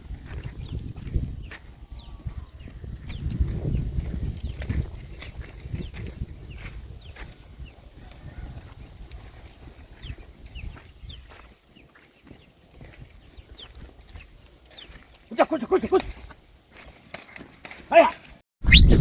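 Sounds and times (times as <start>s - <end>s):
wind rumbling on microphone: 0.0s - 15.2s, 18.6s - 19.0s
birds chirping: 0.0s - 18.4s.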